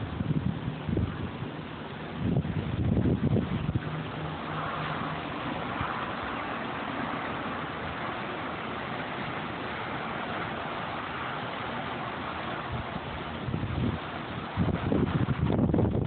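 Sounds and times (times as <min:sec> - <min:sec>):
sandstorm wind rushing: 0:00.0 - 0:16.0.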